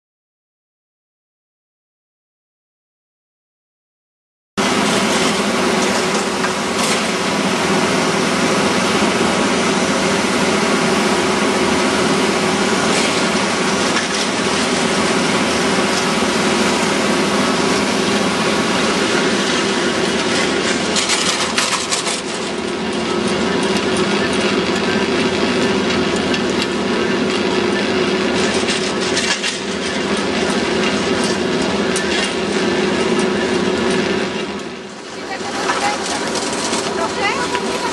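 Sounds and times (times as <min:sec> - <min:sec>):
chairlift mechanical hum: 0:04.6 - 0:37.9.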